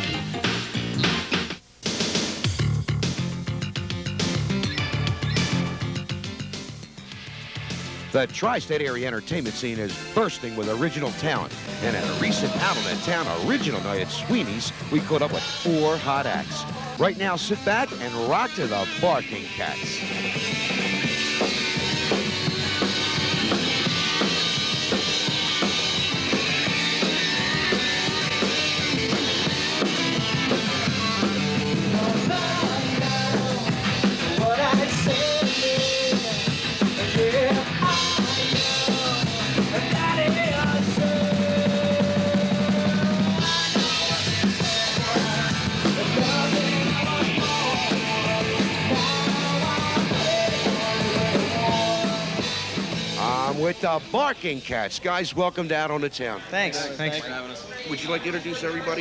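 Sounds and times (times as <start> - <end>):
rock band playing live: 0.0 - 54.1
drum kit beat: 0.0 - 54.4.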